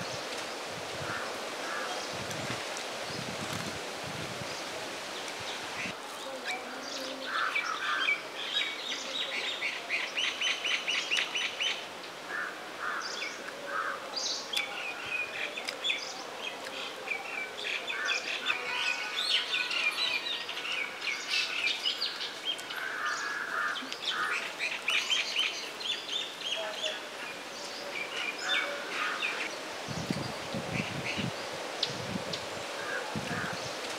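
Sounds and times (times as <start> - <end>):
birds chirping and trilling: 4.4 - 33.8.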